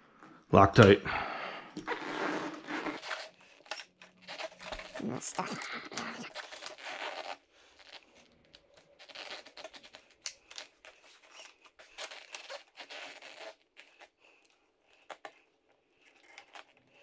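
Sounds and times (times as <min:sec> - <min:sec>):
rustling and scraping: 0:01.8 - 0:17.0.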